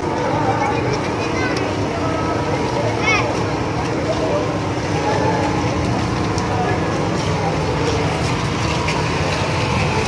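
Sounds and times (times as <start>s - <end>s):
crowd talking indistinctly: 0.0s - 10.0s.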